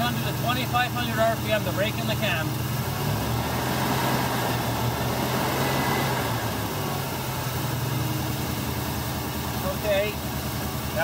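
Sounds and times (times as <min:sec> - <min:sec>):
car engine running at raised speed: 0:00.0 - 0:11.0.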